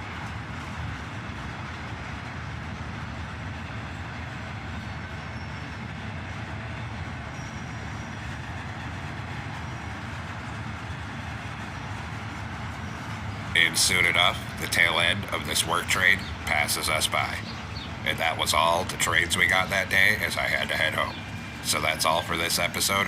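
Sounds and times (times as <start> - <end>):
train wheels rolling on rails: 0.0 - 23.0.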